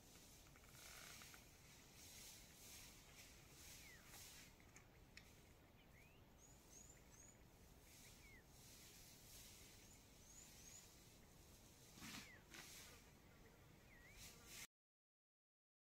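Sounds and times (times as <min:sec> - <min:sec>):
small birds chirping faintly: 0:00.0 - 0:14.7.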